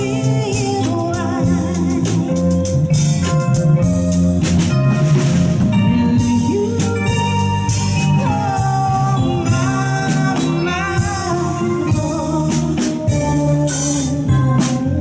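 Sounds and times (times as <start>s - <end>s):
drum kit: 0.0s - 15.0s
organ keyboard chords: 0.0s - 15.0s
plucked electric bass guitar: 0.0s - 15.0s.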